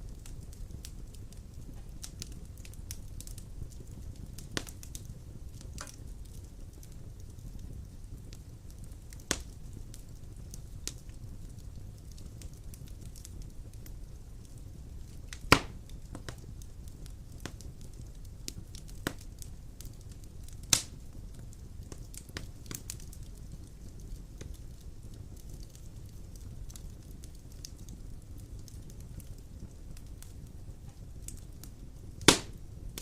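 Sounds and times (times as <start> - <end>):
fire crackling: 0.0 - 33.0
fire popping: 0.0 - 33.0
fire rumbling: 0.0 - 33.0.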